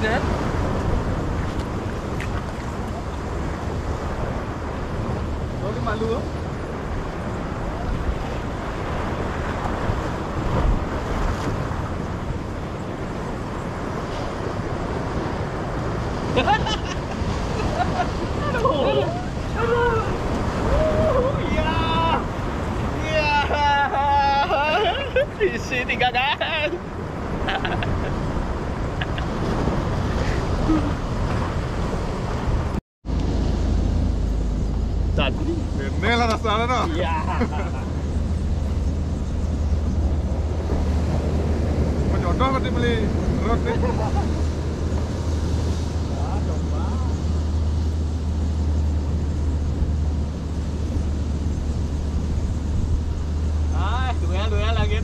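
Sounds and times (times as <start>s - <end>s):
ocean surf on rocks: 0.0s - 55.0s
wind rumbling on microphone: 0.0s - 55.0s.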